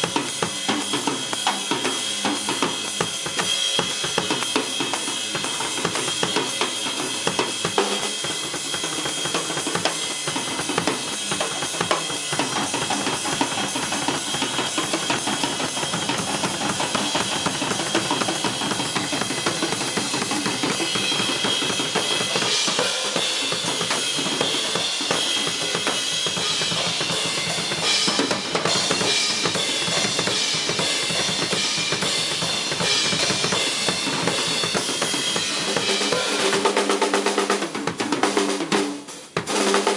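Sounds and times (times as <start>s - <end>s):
cymbal wash: 0.0s - 37.0s
bass drum: 0.0s - 38.8s.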